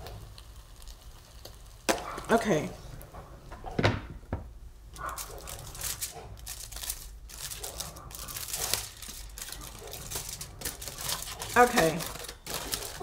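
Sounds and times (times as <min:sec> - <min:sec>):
aluminium foil crinkling: 0:00.0 - 0:02.7, 0:04.9 - 0:13.0.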